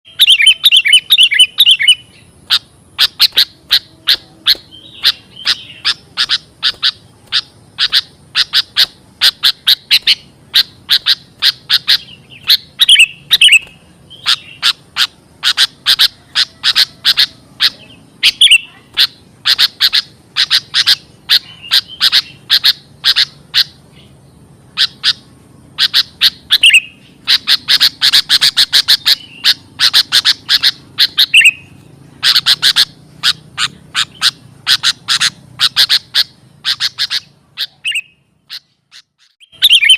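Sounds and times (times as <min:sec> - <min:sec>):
bird sharp chirps: 0:00.1 - 0:39.9.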